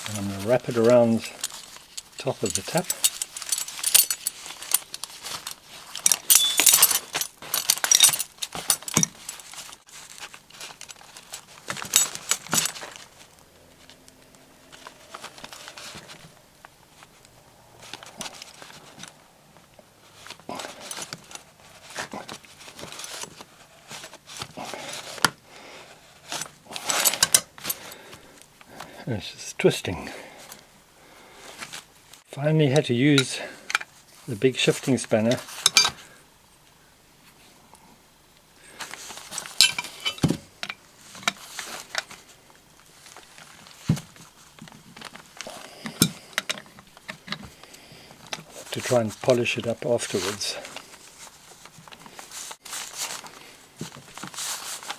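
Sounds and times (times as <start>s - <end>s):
leather belt scraping and creaking: 0.0s - 29.2s, 31.3s - 36.2s, 38.6s - 54.9s.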